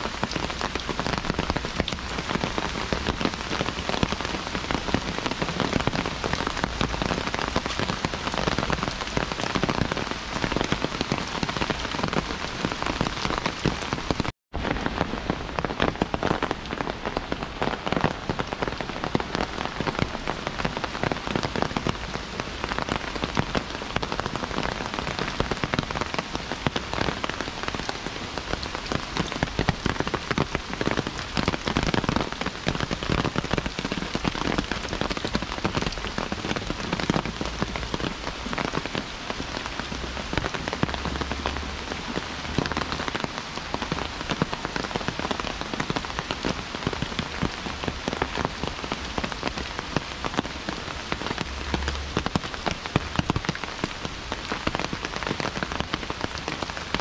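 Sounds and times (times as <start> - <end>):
close raindrop strikes: 0.0 - 57.0
heavy rain: 0.0 - 57.0.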